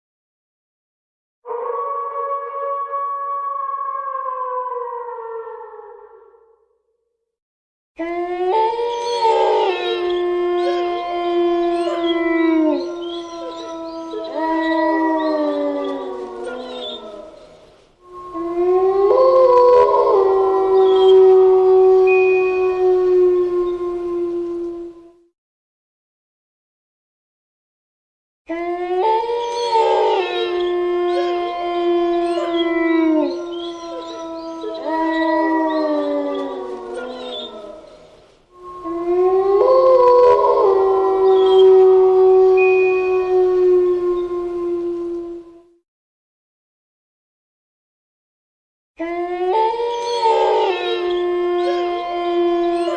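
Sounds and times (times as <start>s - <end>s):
wolves howling: 1.4s - 6.5s, 8.0s - 25.3s, 28.5s - 45.8s, 49.0s - 52.9s.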